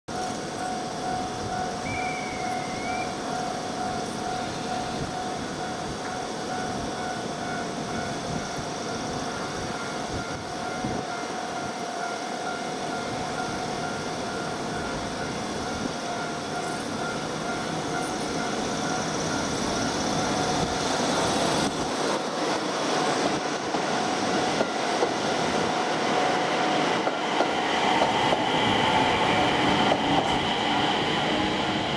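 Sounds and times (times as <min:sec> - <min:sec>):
electric train humming: 0:00.1 - 0:31.9.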